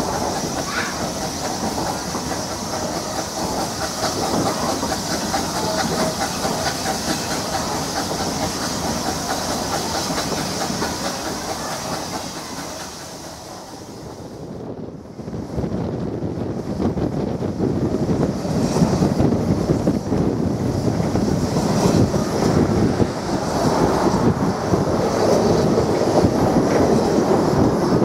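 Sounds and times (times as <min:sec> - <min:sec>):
steam hiss: 0:00.0 - 0:14.6, 0:16.3 - 0:28.0.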